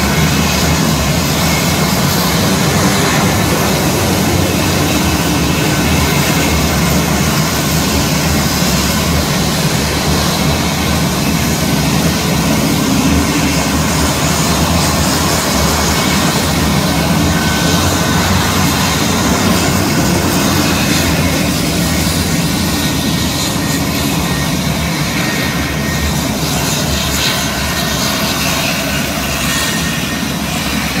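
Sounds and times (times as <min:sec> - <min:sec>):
turboprop engine drone: 0:00.0 - 0:31.0.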